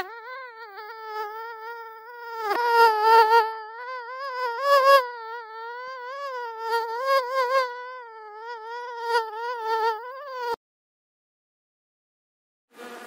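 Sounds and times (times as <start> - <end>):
mosquito whining in flight: 0.0 - 10.6.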